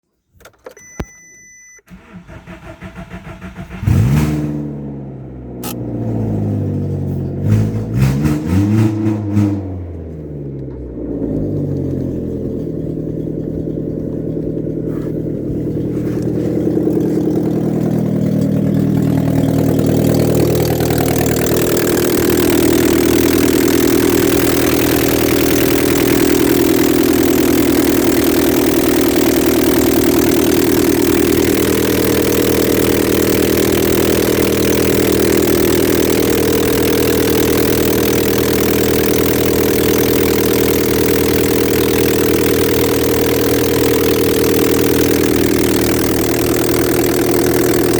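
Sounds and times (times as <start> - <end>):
car engine running: 1.9 - 47.9.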